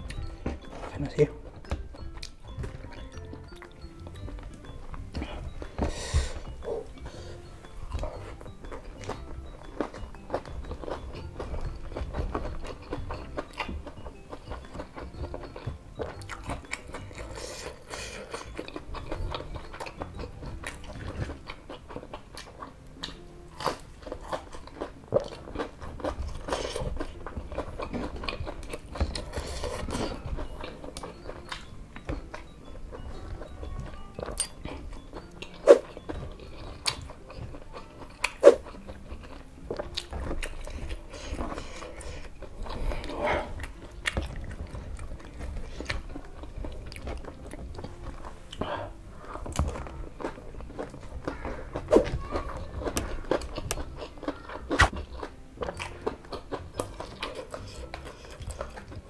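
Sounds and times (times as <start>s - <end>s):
chewing and mouth smacking: 0.0s - 59.0s
crunching food: 7.9s - 59.0s.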